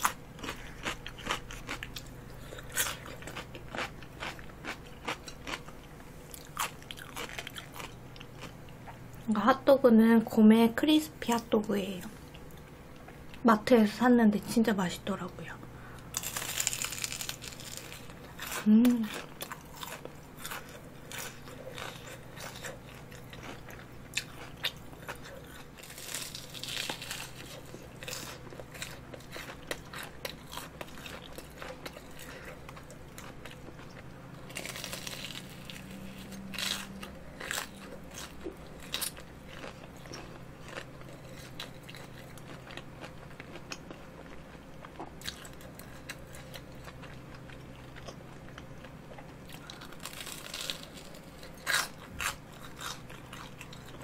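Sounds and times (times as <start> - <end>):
crunchy chewing of fried food: 0.0 - 9.3, 15.8 - 54.0.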